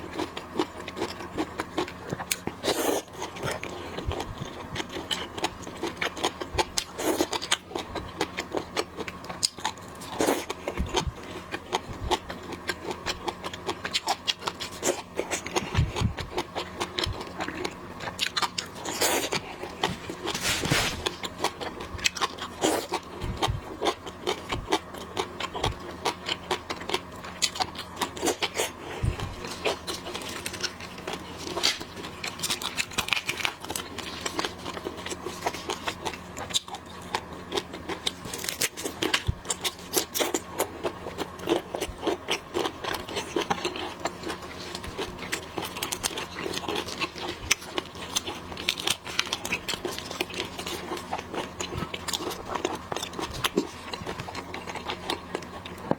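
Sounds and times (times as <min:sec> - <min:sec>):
chewing: 0:00.0 - 0:55.9
faint steady hum: 0:00.0 - 0:55.9.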